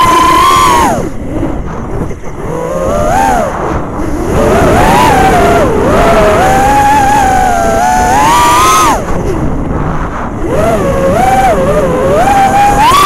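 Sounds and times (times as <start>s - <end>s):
quadcopter motors whining: 0.0s - 13.0s
wind rush: 0.0s - 13.0s.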